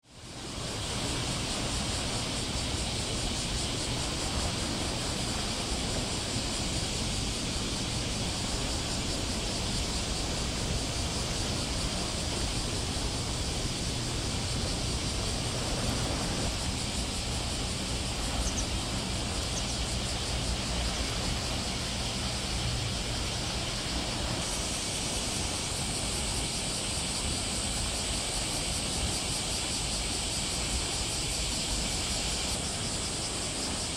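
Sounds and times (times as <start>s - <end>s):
high hissing noise: 0.0s - 33.9s.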